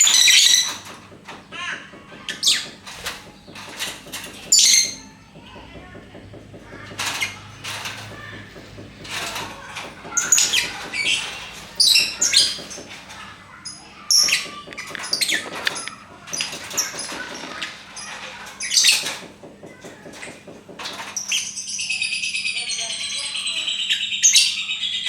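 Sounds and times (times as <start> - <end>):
lovebirds chirping and chattering: 0.0 - 25.0.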